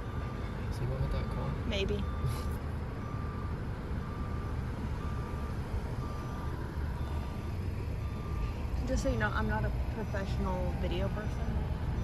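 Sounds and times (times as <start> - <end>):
low engine and road rumble: 0.0 - 12.0
truck backup alarm beeping: 0.0 - 12.0.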